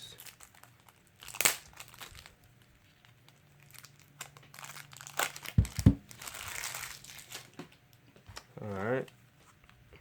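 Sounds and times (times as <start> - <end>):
cellophane crinkling: 0.0 - 9.0.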